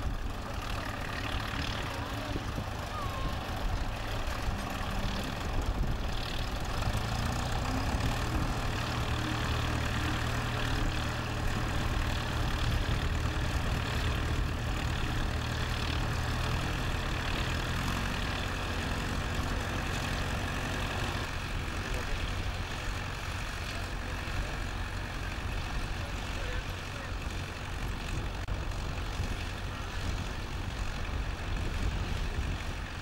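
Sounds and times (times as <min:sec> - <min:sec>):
tractor engine running under load: 0:00.0 - 0:33.0.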